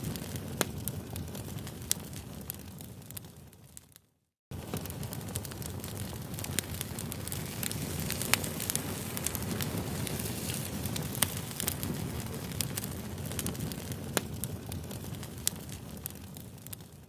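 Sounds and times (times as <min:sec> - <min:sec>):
campfire flame rushing: 0:00.0 - 0:03.7, 0:04.5 - 0:17.0
fire crackling and popping: 0:00.0 - 0:17.0.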